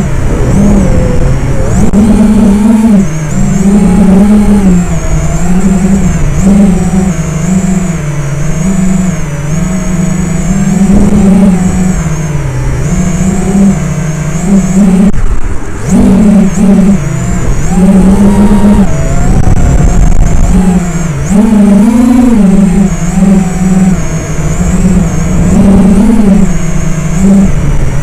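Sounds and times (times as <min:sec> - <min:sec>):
drone motors whining: 0:00.0 - 0:28.0
wind rumbling on microphone: 0:00.0 - 0:28.0.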